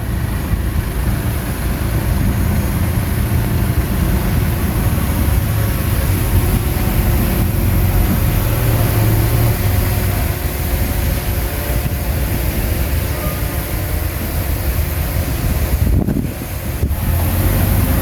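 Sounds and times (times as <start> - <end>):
bulldozer diesel engine: 0.0 - 18.0.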